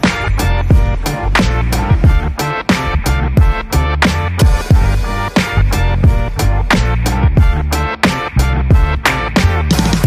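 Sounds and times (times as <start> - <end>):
music with a driving beat: 0.0 - 10.0.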